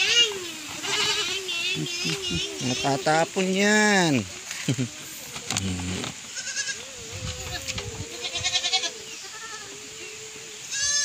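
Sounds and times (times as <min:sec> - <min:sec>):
goats bleating: 0:00.0 - 0:11.0.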